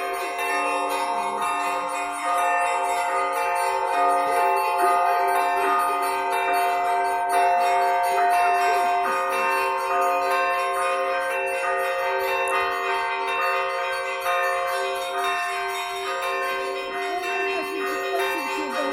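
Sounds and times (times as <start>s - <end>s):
church bells ringing: 0.0s - 18.9s.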